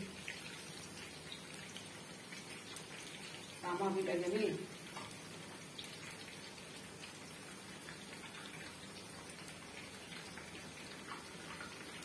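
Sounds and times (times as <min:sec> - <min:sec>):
eggplant frying in hot oil: 0:00.0 - 0:12.0.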